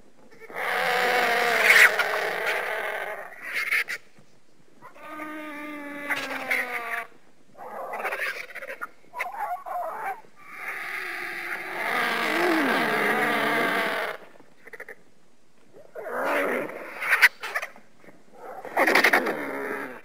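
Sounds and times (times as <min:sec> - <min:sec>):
creature cries: 0:00.4 - 0:03.9, 0:04.8 - 0:15.0, 0:15.8 - 0:17.7, 0:18.4 - 0:20.0.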